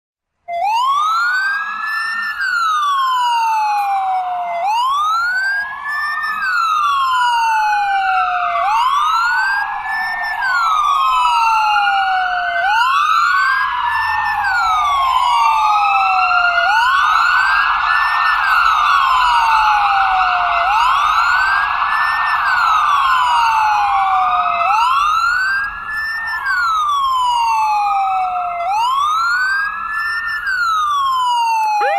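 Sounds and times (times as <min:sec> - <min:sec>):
ambulance siren wailing: 0:00.5 - 0:31.9
second siren wail: 0:00.5 - 0:31.9.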